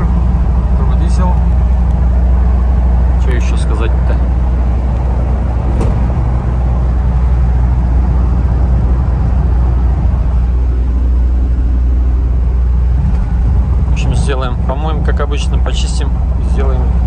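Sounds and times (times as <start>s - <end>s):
diesel engine droning: 0.0s - 17.0s
road and tyre rumble: 0.0s - 17.0s.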